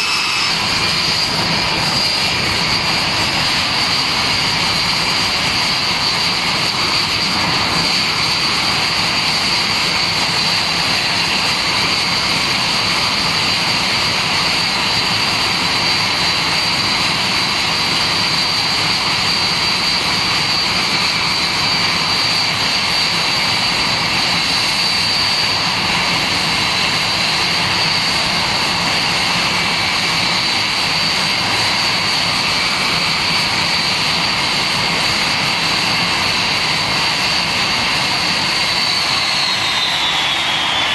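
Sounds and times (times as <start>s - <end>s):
high-pitched engine whine: 0.0s - 40.9s
jet engine running: 0.0s - 40.9s.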